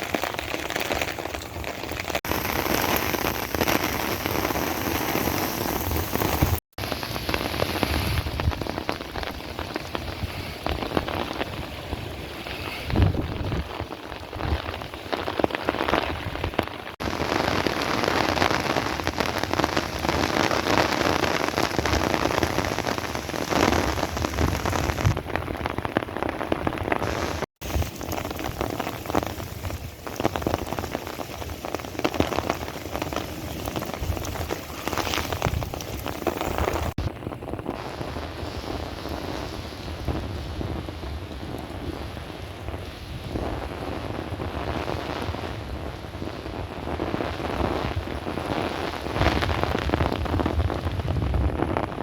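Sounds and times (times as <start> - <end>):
rain spattering on surfaces: 0.0 - 52.0.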